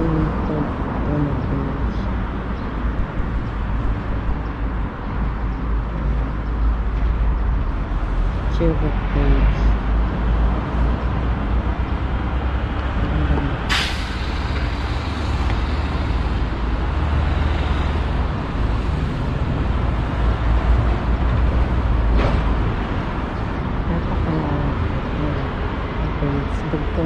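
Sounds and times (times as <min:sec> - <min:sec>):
traffic noise: 0:00.0 - 0:27.0.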